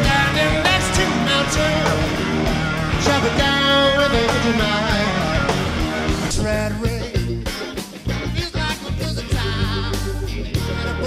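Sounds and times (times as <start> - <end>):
man singing: 0.0 - 7.4, 8.2 - 11.0
blues-rock band with electric guitar: 0.0 - 11.0.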